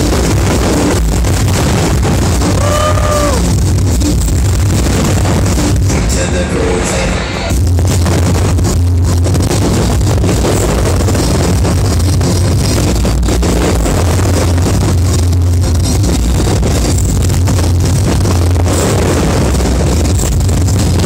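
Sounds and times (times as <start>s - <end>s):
fireworks bangs and crackles: 0.0s - 6.2s, 7.4s - 21.0s.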